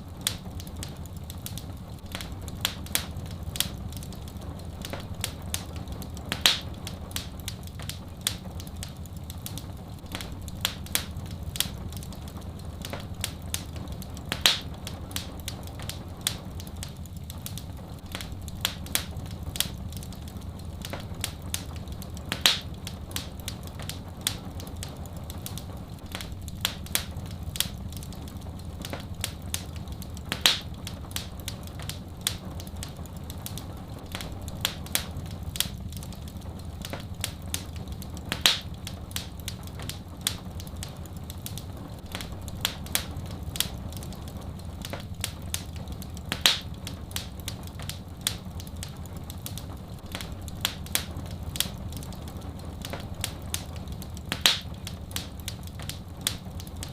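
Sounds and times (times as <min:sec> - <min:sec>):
low fire rumble: 0:00.0 - 0:56.9
wood fire crackling: 0:00.0 - 0:56.9.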